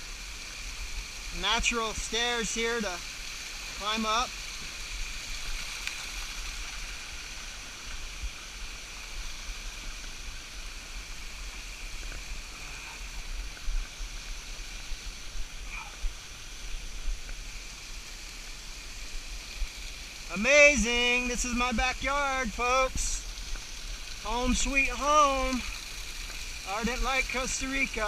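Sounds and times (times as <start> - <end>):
running water and small waterfalls: 0.0 - 28.0.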